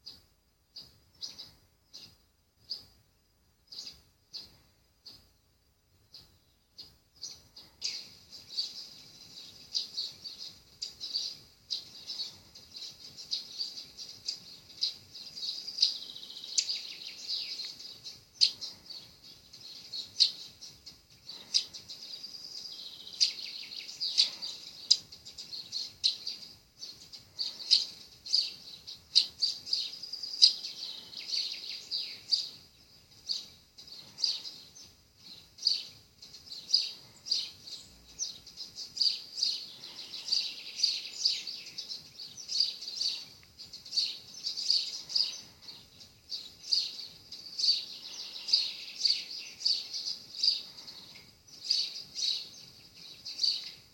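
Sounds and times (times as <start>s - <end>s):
birds chirping and calling: 0.8s - 2.9s, 3.7s - 5.2s, 6.1s - 53.9s.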